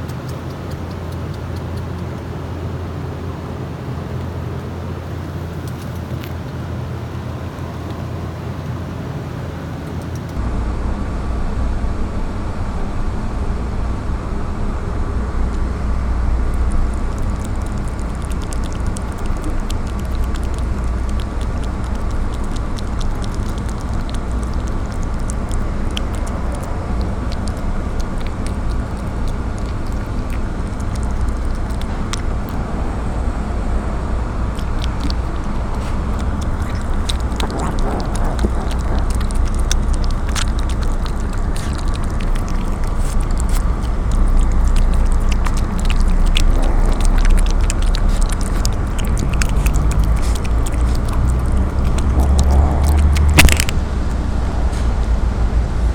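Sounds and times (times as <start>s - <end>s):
outdoor background rumble: 0.0s - 55.9s.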